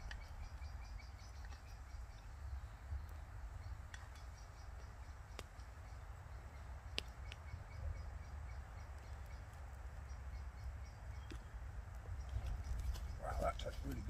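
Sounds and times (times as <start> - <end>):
faint bird chirps: 0.0 - 14.0
steady low rumble: 0.0 - 14.0.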